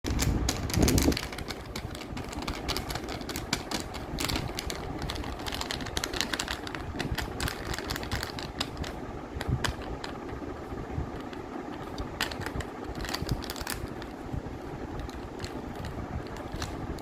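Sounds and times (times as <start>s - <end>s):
packaging crinkling and rustling: 0.1s - 10.3s, 11.2s - 14.2s, 14.9s - 17.0s.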